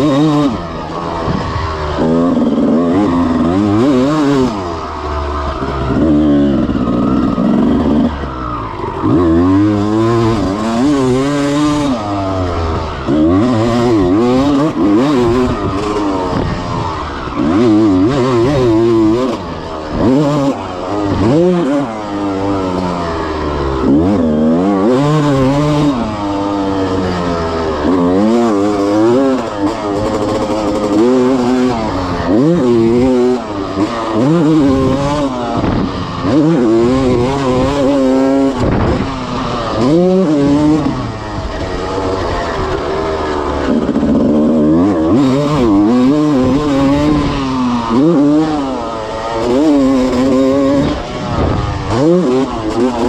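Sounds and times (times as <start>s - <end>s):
two-stroke engine revving: 0.0s - 53.0s.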